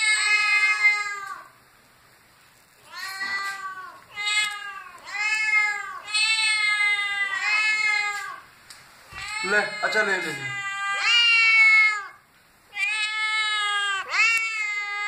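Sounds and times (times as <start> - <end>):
cats meowing: 0.0 - 1.6, 2.8 - 8.5, 9.1 - 15.0.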